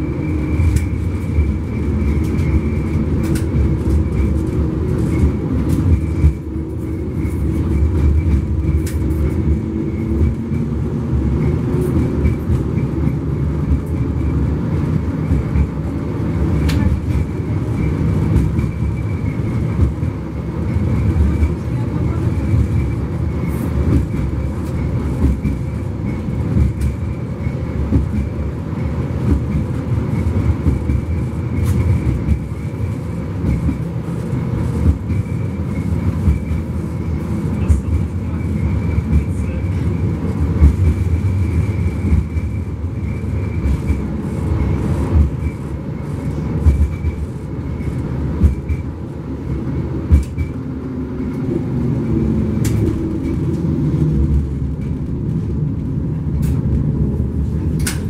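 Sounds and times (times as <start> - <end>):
tram low rumble: 0.0 - 58.0.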